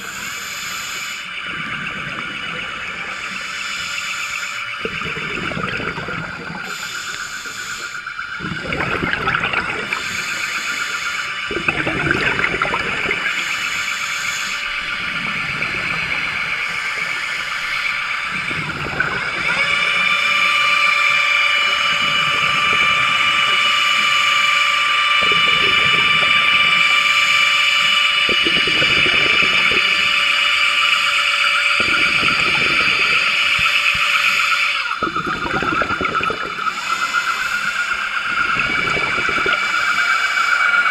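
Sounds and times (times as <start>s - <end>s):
scuba exhaled bubbles rushing: 0.0s - 24.3s, 25.2s - 30.4s, 31.7s - 40.9s
underwater propulsion whine: 0.0s - 40.9s.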